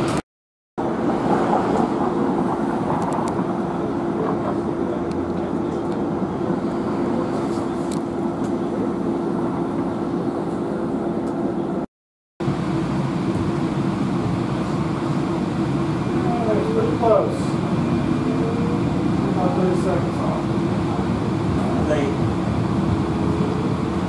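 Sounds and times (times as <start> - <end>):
electric streetcar humming: 0.8 - 11.8, 12.4 - 24.0.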